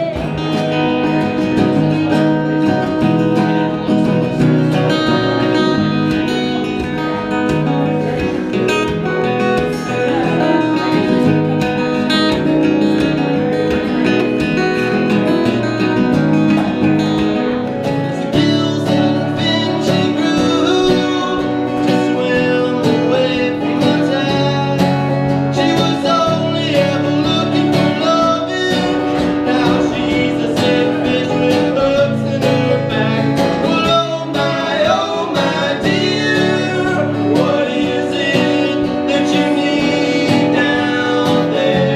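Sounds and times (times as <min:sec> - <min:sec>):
acoustic guitars playing: 0:00.0 - 0:41.9
man singing: 0:00.0 - 0:41.9.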